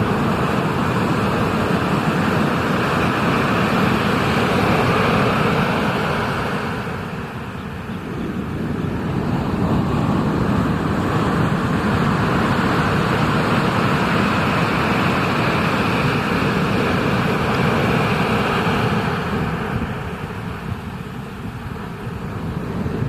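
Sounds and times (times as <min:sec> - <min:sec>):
ocean surf rushing: 0:00.0 - 0:23.0.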